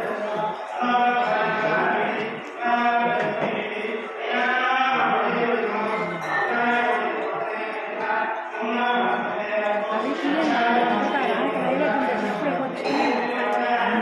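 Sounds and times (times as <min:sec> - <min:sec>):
mantras chanted: 0:00.0 - 0:14.0.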